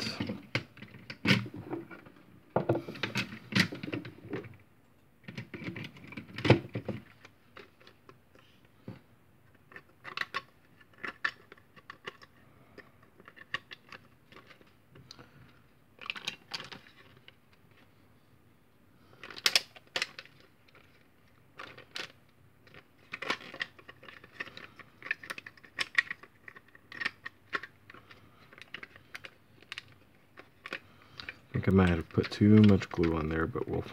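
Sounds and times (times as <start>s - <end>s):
plastic parts clicking and knocking: 0.0s - 4.6s, 5.2s - 17.9s, 19.1s - 33.9s.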